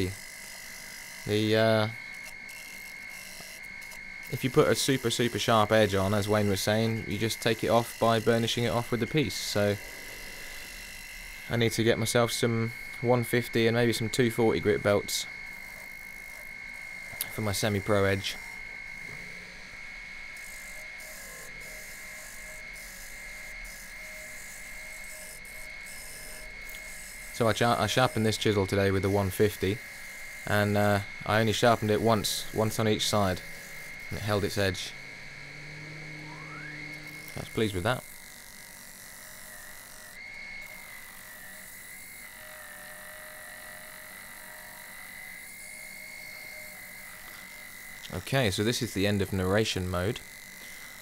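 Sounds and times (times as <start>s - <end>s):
gouge cutting spinning wood: 0.0s - 51.0s
wood lathe whine: 0.0s - 51.0s.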